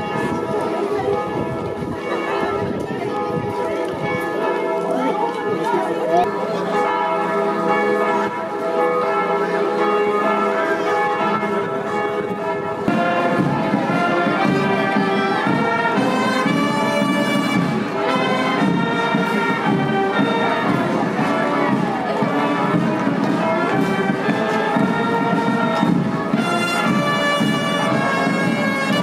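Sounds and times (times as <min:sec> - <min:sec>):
church bells ringing: 0:00.0 - 0:29.0.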